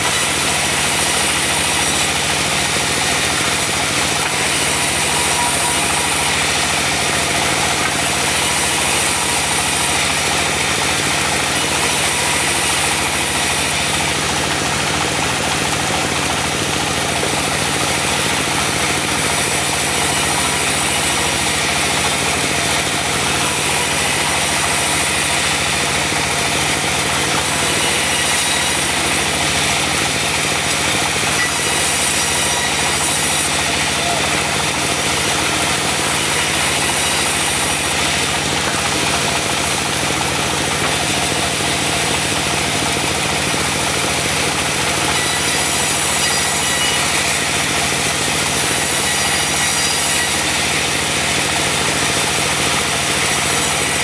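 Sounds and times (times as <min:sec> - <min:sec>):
diesel engine running: 0:00.0 - 0:49.0
saw cutting wood: 0:00.0 - 0:54.0.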